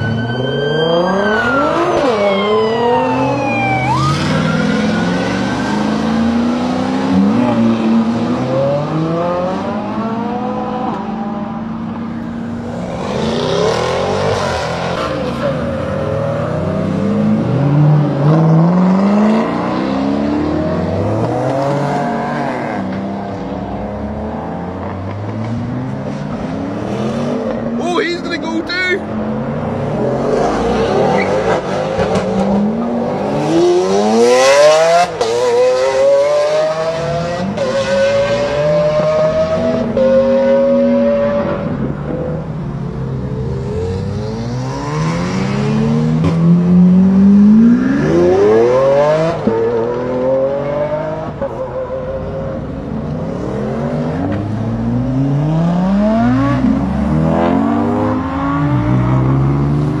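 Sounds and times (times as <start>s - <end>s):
sports cars accelerating hard: 0.0s - 60.0s.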